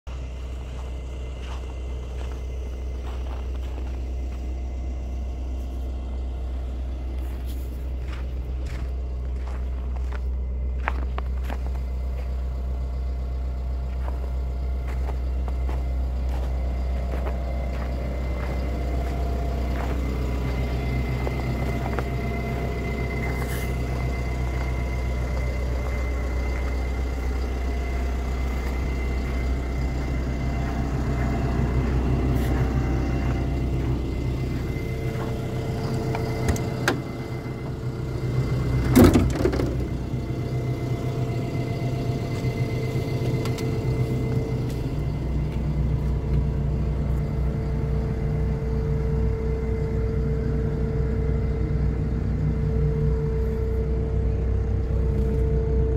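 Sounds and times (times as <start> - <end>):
diesel engine idling: 0.0 - 55.9
footsteps crunching in snow: 0.1 - 38.4, 40.2 - 47.4.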